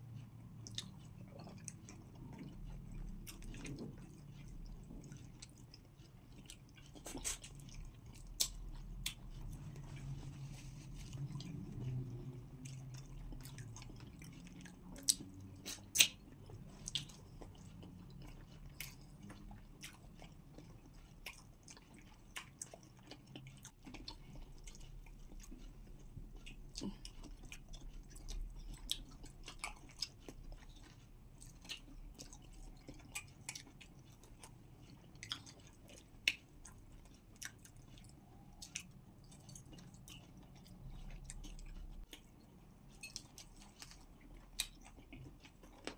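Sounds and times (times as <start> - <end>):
chewing food: 0.0 - 45.9.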